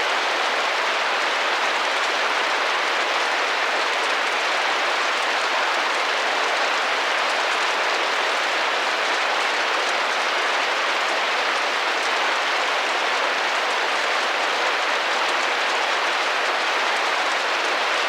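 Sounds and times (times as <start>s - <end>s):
rain pattering on window: 0.0s - 18.0s.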